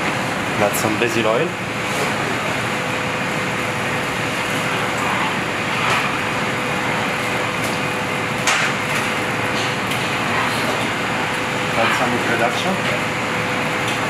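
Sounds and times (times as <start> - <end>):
ventilation fans hissing: 0.0 - 14.0.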